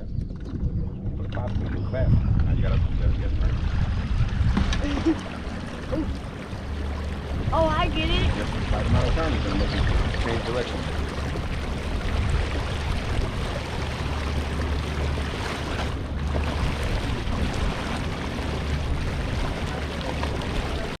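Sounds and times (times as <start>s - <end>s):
wind noise: 0.0s - 19.8s
low engine rumble: 0.0s - 21.0s
water rushing: 2.6s - 21.0s.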